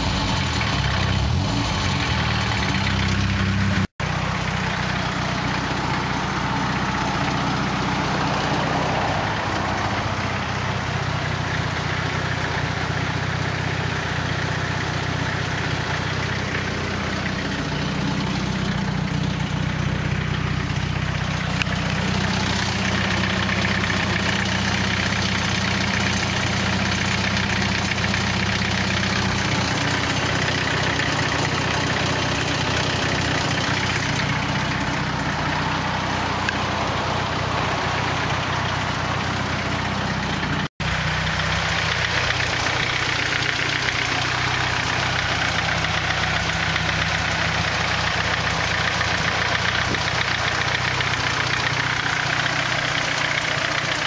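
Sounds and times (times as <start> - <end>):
car engine idling with rattle: 0.0 - 54.0.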